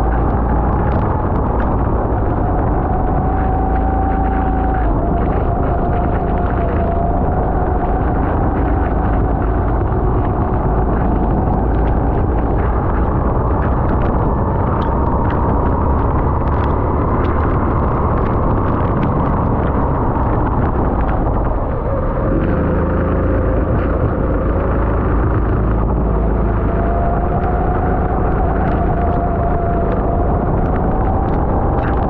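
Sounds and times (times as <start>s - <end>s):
engine crackles: 0.0s - 32.0s.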